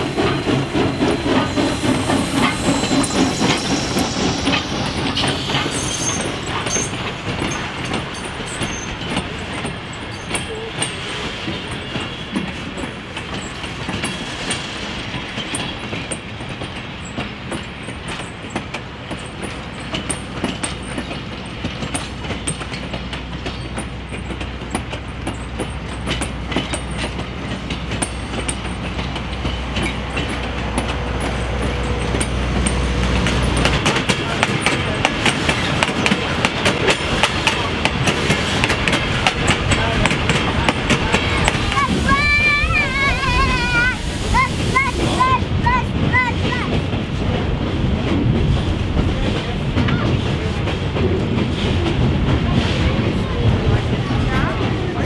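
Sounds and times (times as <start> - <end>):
train cars rumbling: 0.0 - 55.0
wheels clicking over rail joints: 0.0 - 55.0.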